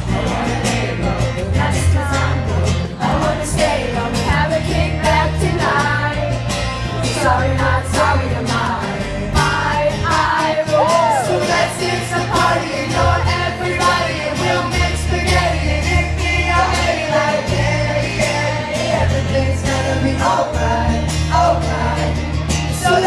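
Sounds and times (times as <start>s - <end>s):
drums: 0.0s - 23.0s
electric guitar: 0.0s - 23.0s
person singing: 0.0s - 23.0s.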